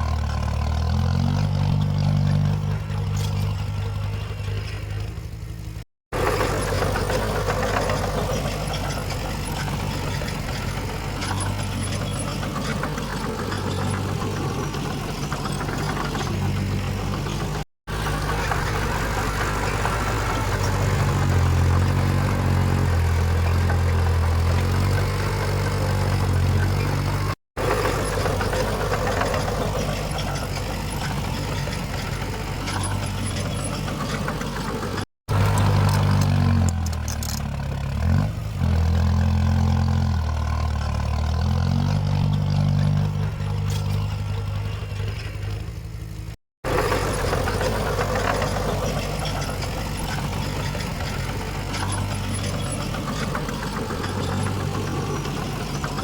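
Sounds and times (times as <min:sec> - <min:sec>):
heavy diesel machines running: 0:00.0 - 0:56.0.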